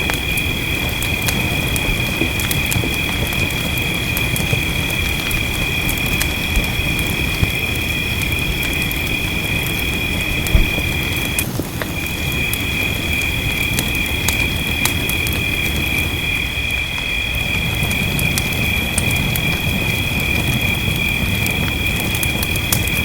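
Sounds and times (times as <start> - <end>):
rainfall rumble: 0.0 - 23.0
wood fire crackling: 0.0 - 23.0.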